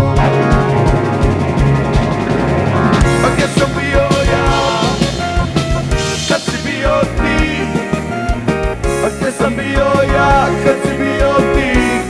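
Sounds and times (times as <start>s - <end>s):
drum-kit beat: 0.0s - 12.0s
electric guitar: 0.0s - 12.0s
live ska rock band: 0.0s - 12.0s.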